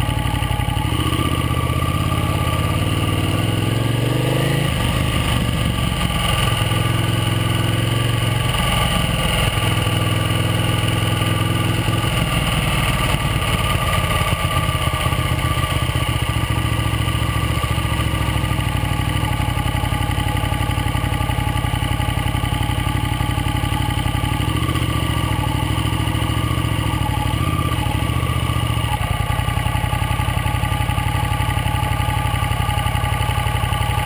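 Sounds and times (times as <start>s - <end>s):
motorcycle engine at low revs: 0.0s - 34.0s.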